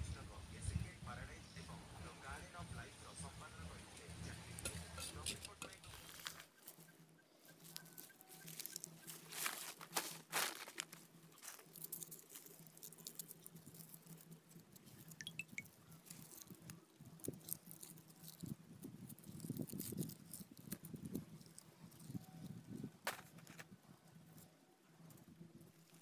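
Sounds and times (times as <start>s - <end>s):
dry skins crackling and tearing: 4.5s - 6.8s, 7.4s - 26.0s.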